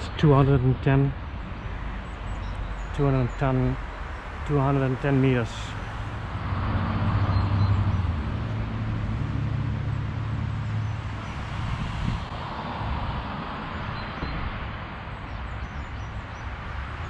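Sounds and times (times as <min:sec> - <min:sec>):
road traffic rumble: 0:00.0 - 0:17.0
vehicle hum: 0:00.0 - 0:17.0.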